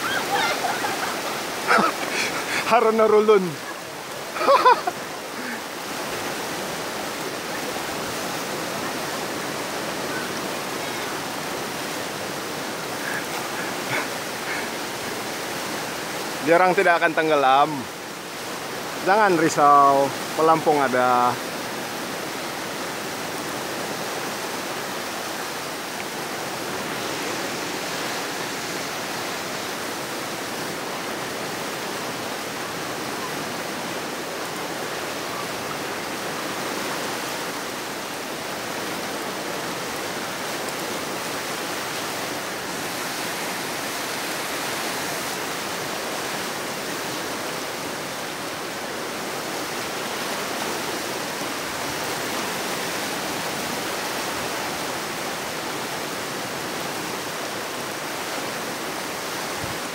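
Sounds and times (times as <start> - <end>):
fast-flowing river water: 0.0 - 59.9.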